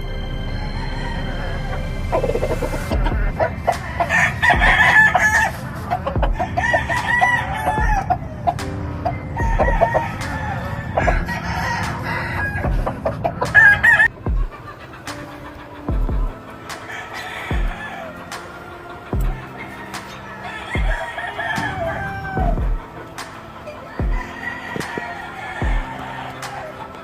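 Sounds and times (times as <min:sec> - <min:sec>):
hens clucking: 0:00.0 - 0:27.0
roosters crowing: 0:00.0 - 0:27.0.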